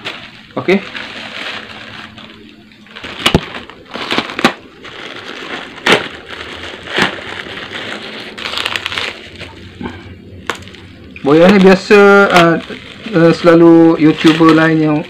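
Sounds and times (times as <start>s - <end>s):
plastic bag tearing and rustling: 0.0s - 15.0s
plastic wrap crinkling: 0.0s - 15.0s.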